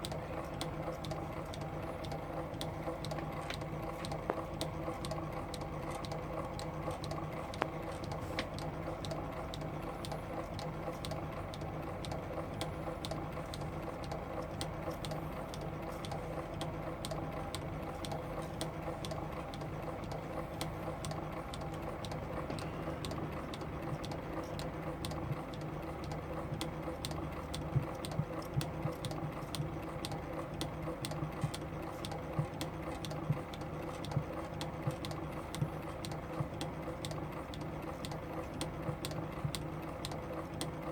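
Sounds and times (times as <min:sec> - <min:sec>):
film advancing ticks: 0:00.0 - 0:40.9
film projector whirring: 0:00.0 - 0:40.9.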